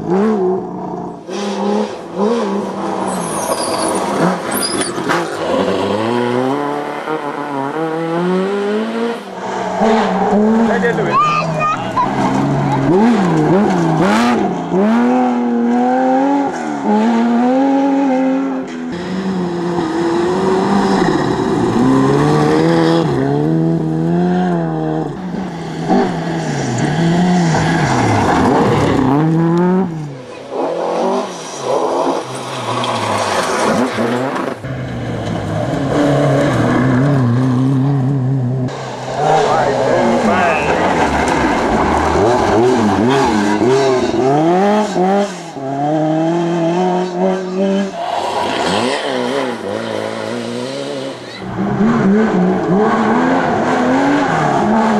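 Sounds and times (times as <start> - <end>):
rally car engines revving: 0.0 - 54.9.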